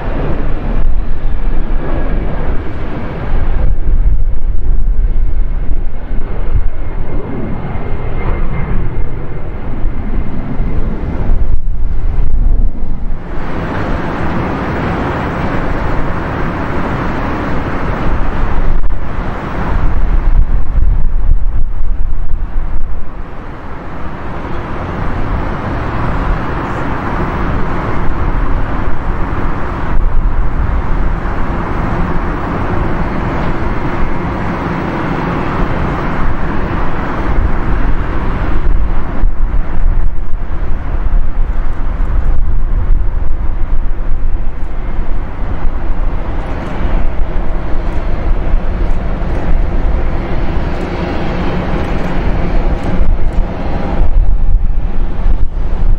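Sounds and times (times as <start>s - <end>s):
jet engines rushing: 0.0s - 55.9s.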